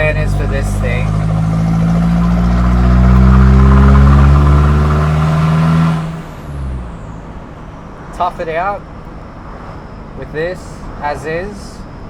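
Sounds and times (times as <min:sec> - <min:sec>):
turbo engine accelerating: 0:00.0 - 0:11.8.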